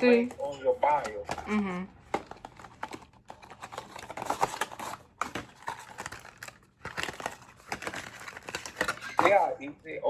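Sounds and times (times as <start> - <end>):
packaging clicks and taps: 0.0 - 9.4
packaging rustling: 0.0 - 9.5.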